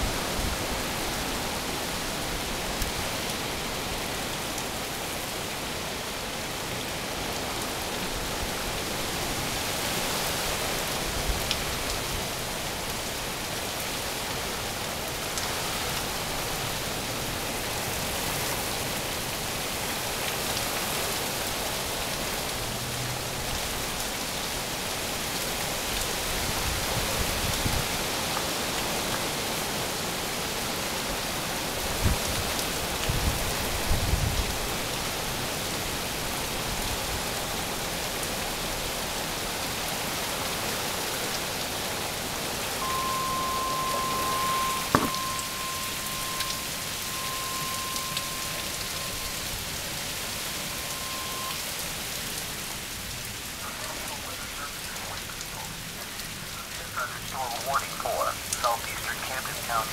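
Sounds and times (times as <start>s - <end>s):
heavy rain with wind: 0.0s - 59.9s.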